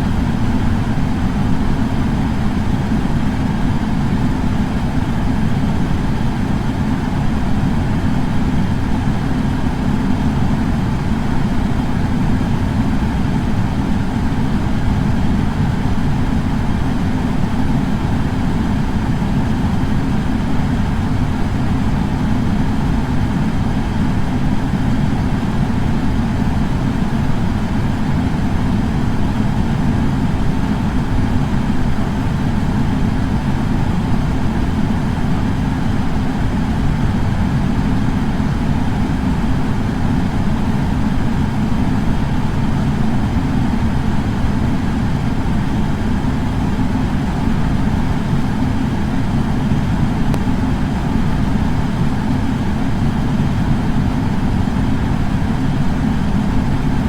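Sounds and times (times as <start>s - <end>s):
air purifier fan whooshing: 0.0s - 57.0s.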